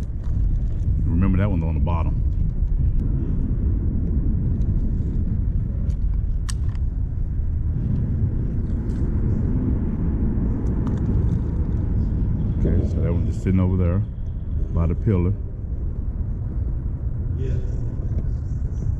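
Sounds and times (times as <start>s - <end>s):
low outdoor rumble: 0.0s - 18.9s.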